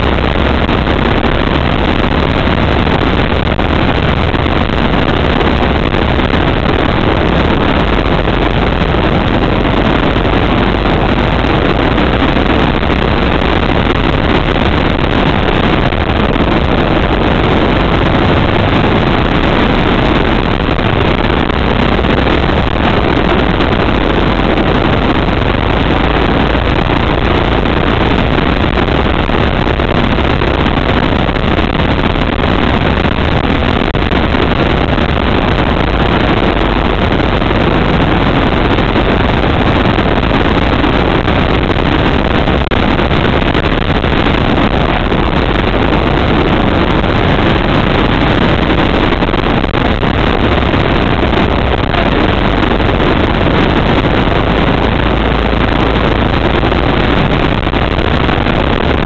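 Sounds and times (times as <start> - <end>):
go-kart engine running: 0.0 - 59.0
wind noise: 0.0 - 59.0.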